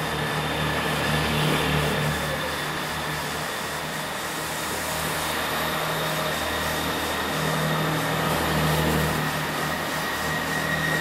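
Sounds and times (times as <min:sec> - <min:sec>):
train diesel engines running: 0:00.0 - 0:11.0.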